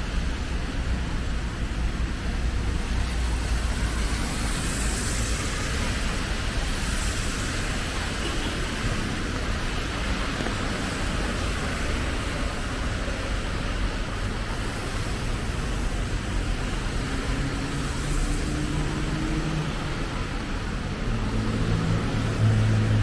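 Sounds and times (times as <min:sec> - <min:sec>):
rain: 0:00.0 - 0:23.0
traffic on wet street: 0:00.0 - 0:23.0.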